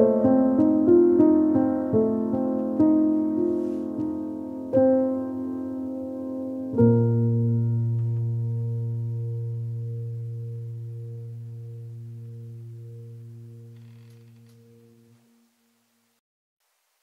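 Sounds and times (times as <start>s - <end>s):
piano chord ringing: 0.0s - 15.5s.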